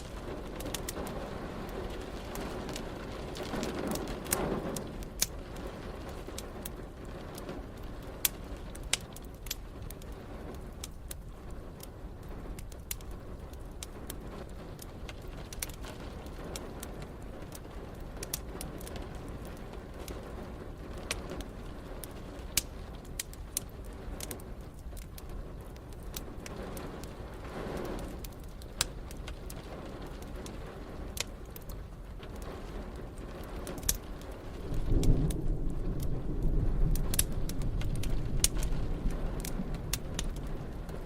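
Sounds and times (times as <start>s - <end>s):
rain hissing: 0.0s - 41.0s
wood fire crackling: 0.0s - 41.0s.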